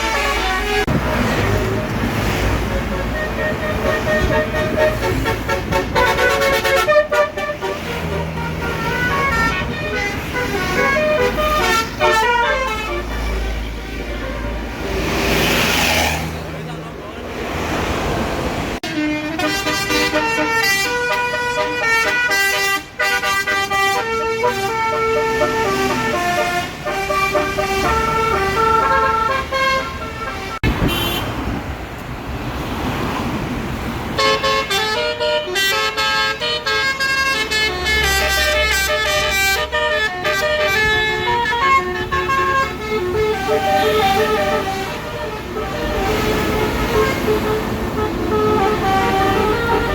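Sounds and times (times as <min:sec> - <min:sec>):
multi-tone air horn melody: 0:00.0 - 0:14.9, 0:18.8 - 0:31.3, 0:34.2 - 0:49.9.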